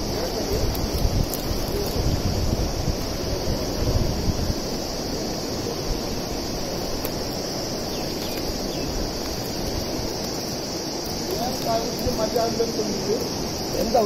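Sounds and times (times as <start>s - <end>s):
high insect drone: 0.0s - 14.0s
wind buffeting microphone: 0.0s - 14.0s.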